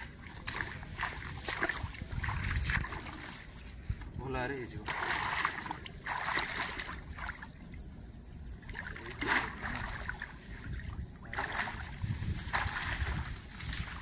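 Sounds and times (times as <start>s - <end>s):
shallow water splashing: 0.0s - 3.7s, 4.6s - 7.9s, 8.6s - 14.0s.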